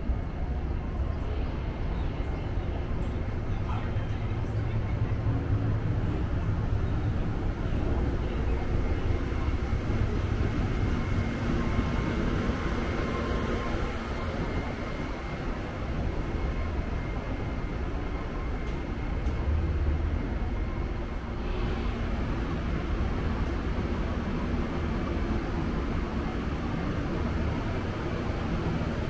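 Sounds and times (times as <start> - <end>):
faint high whine: 0.0 - 29.0
standing train rumble and hum: 0.0 - 29.0.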